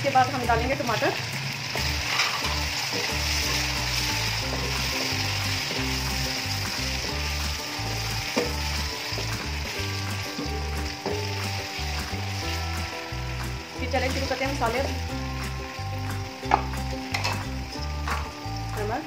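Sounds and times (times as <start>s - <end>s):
background music: 0.0s - 19.0s
oil sizzling in a pot: 0.0s - 19.0s.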